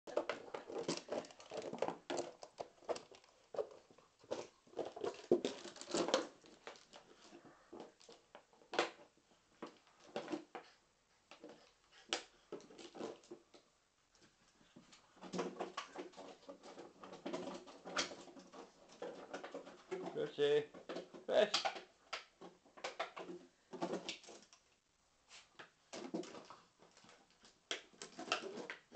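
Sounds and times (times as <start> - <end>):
crinkling rustles: 0.1 - 28.9
puppy playing with toys: 0.1 - 28.9.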